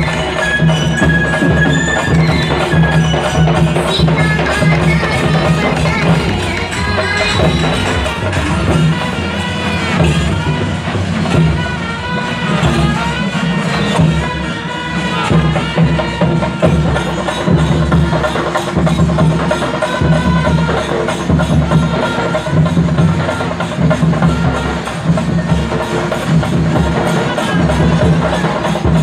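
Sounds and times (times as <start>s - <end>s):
drums beating fast rhythm: 0.0s - 29.0s
melody over drumming: 0.0s - 29.0s.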